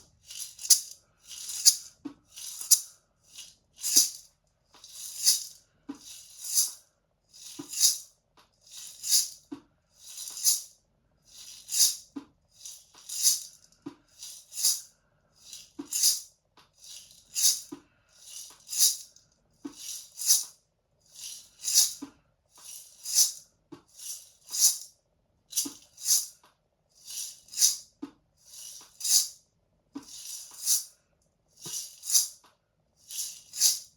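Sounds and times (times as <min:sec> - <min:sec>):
maracas shaken: 0:00.0 - 0:06.8, 0:07.4 - 0:09.4, 0:10.0 - 0:10.7, 0:11.3 - 0:20.5, 0:21.2 - 0:24.9, 0:25.5 - 0:26.4, 0:27.0 - 0:27.8, 0:28.4 - 0:29.4, 0:30.0 - 0:31.0, 0:31.6 - 0:32.4, 0:33.0 - 0:33.9.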